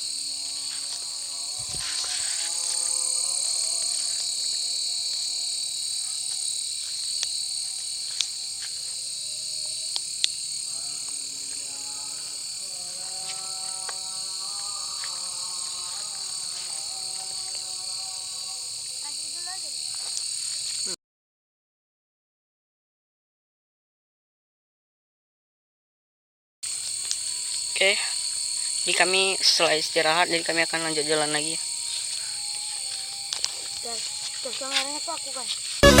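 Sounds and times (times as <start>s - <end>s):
frogs calling: 0.0s - 20.9s, 26.7s - 36.0s
insects trilling: 0.0s - 21.0s, 26.6s - 36.0s.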